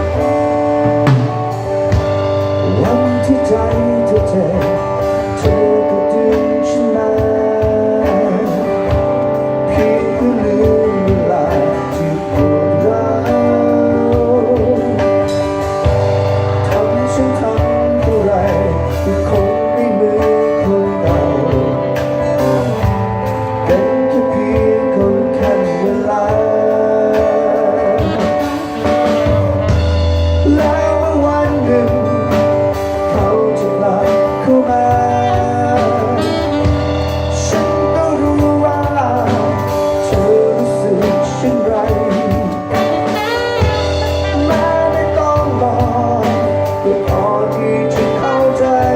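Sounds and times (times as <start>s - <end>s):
guitar band music: 0.0s - 48.9s.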